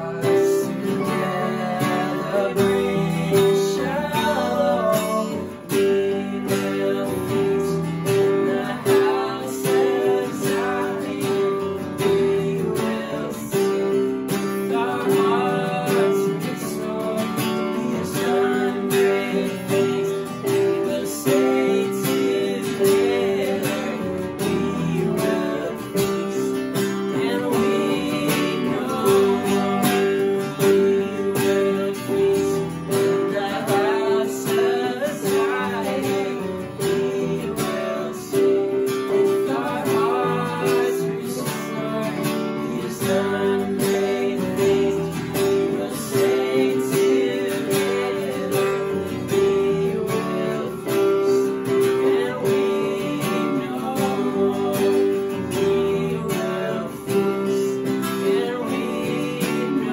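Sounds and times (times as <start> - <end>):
men singing together: 0.0 - 59.9
strummed acoustic guitar: 0.0 - 59.9.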